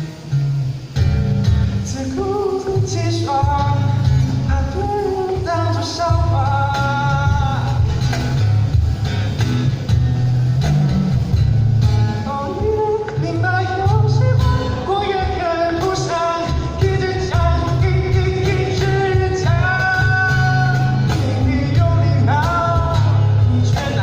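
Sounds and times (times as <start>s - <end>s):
rock-pop backing track: 0.0s - 24.0s.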